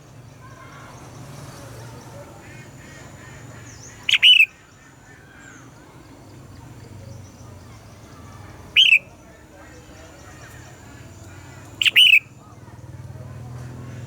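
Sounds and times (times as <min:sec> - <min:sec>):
faint bird chirping: 0:00.0 - 0:12.9.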